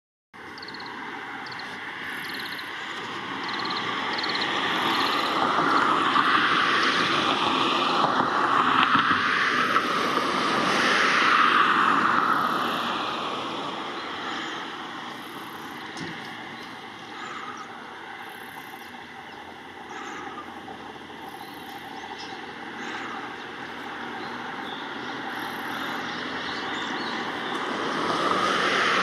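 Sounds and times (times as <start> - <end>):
motor vehicle passing: 0.6 - 29.0.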